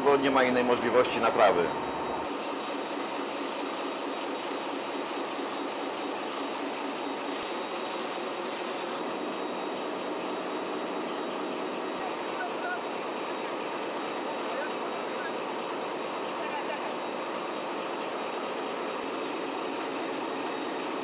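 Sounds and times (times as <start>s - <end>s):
engine-room machinery running: 0.0s - 21.0s.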